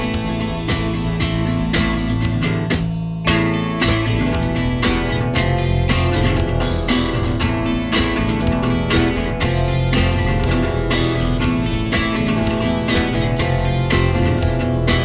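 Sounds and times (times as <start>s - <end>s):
steady beat: 0.0s - 15.0s
strummed guitar: 0.0s - 15.0s
sustained bass line: 0.0s - 15.0s.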